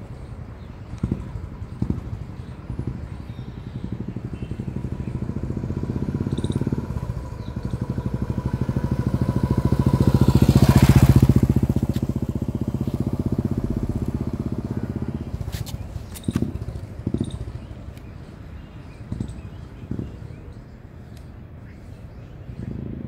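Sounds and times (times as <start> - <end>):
motorcycle riding past: 0.8 - 20.6, 22.5 - 23.0.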